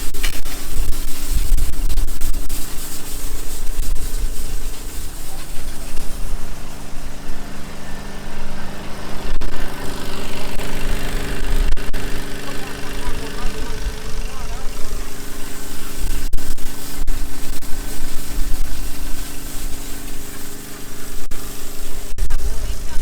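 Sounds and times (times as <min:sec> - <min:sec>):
loud uneven low rumble: 0:00.0 - 0:23.0
vehicle engine running steadily: 0:03.6 - 0:23.0.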